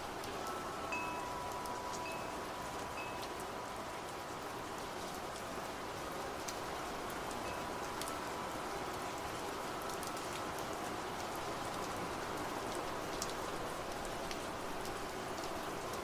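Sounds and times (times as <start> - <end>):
rain falling: 0.0 - 16.0
raindrops ticking on a surface: 0.0 - 16.0.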